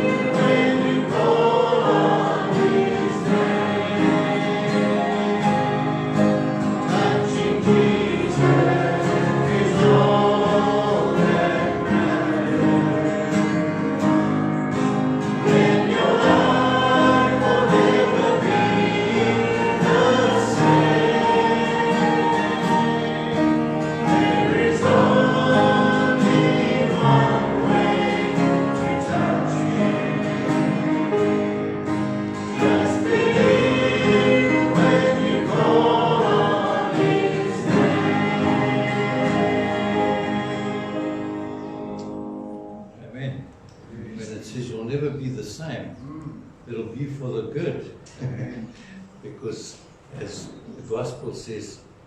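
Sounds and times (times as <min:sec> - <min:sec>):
congregation singing a hymn: 0:00.0 - 0:42.9
instrumental accompaniment: 0:00.0 - 0:43.0.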